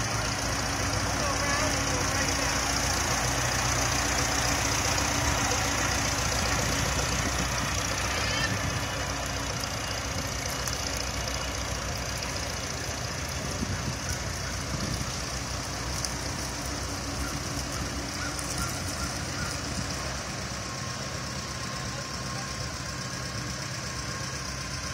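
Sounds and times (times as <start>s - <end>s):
tractor engine idling: 0.0s - 24.9s.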